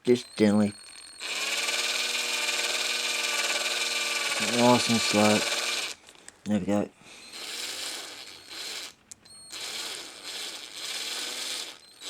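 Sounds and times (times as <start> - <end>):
ratchet-like whirr: 0.0 - 6.3, 7.2 - 12.0.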